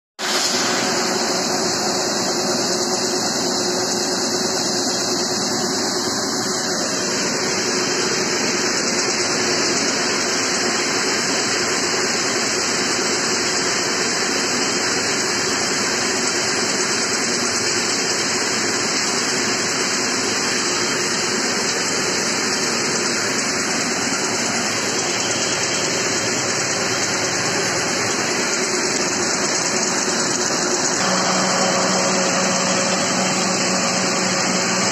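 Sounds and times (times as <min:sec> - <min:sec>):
machine running: 0:00.2 - 0:34.9.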